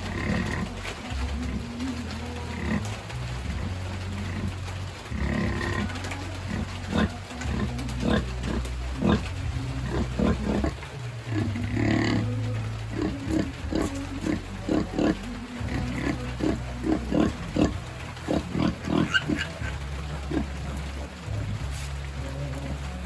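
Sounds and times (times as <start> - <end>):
pigs grunting: 0.0 - 23.0.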